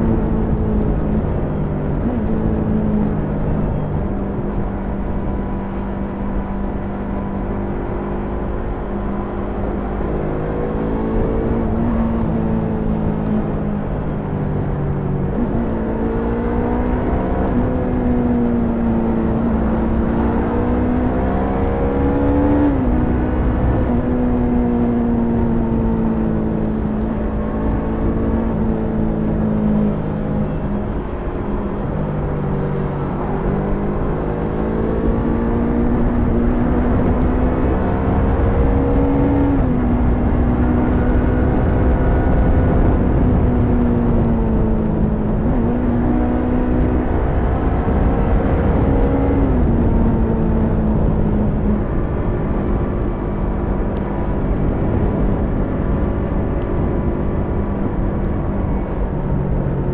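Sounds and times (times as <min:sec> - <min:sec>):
motorcycle engine revving and upshifting: 0:00.0 - 0:59.9.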